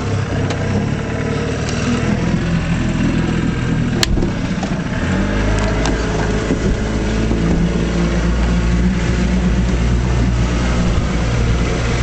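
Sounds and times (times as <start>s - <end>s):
outboard motor running: 0.0s - 12.0s
rush of wind and water: 0.0s - 12.0s.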